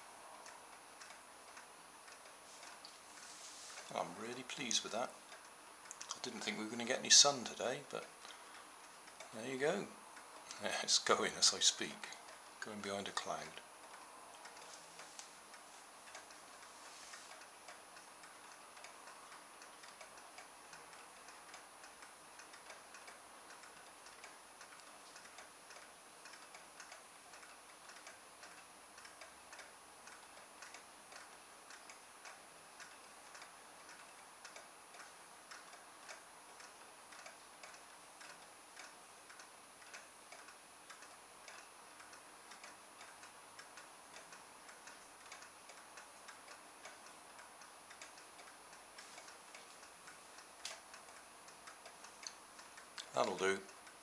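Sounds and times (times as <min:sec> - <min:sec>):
faint regular ticking: 0:00.0 - 0:54.0.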